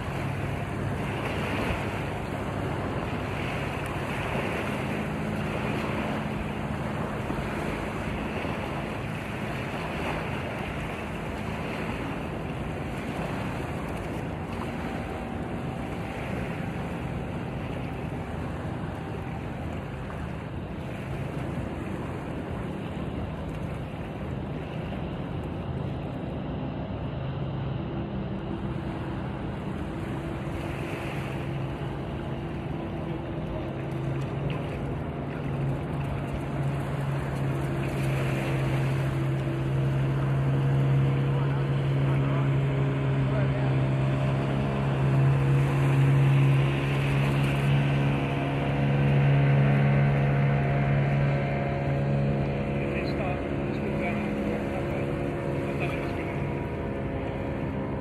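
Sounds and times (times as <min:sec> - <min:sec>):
small waves washing onto shore: 0:00.0 - 0:58.0.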